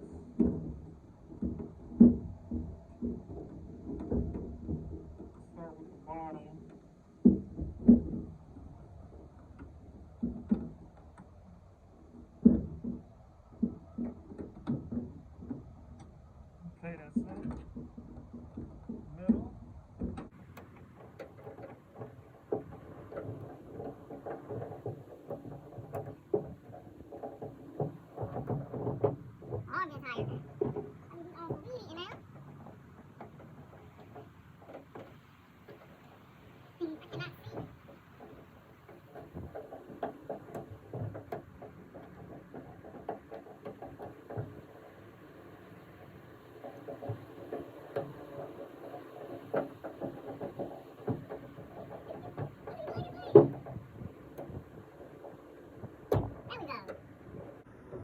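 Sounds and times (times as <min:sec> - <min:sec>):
plastic and metal knocks and clicks: 0:00.0 - 0:58.0.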